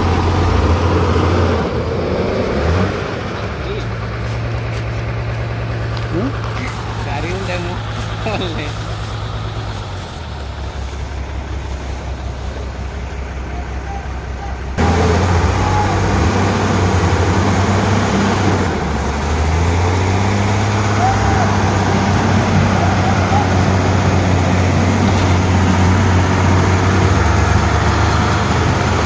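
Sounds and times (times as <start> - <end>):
diesel truck engine droning: 0.0 - 29.0.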